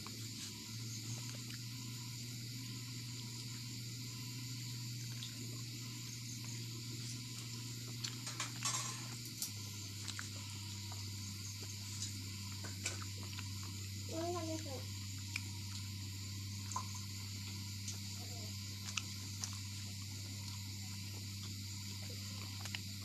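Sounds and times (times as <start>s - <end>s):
low hum and hiss: 0.0s - 23.0s.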